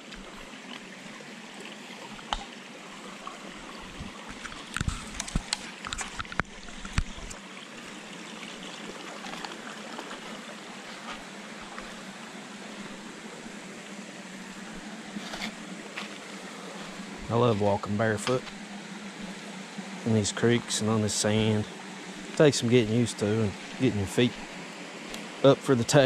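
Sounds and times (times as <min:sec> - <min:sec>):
creek running over rocks: 0:00.0 - 0:26.0.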